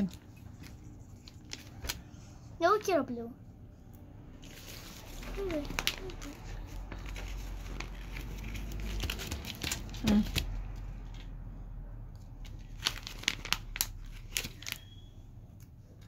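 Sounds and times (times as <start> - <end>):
paper crinkling and rustling: 0.0 - 2.9, 4.4 - 11.3, 12.4 - 16.0.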